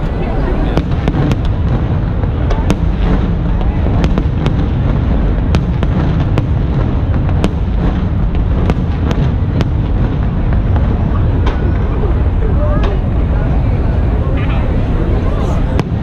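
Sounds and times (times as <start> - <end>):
fireworks sharp cracks: 0.0 - 13.2, 15.6 - 16.0
fireworks rumbling: 0.0 - 16.0.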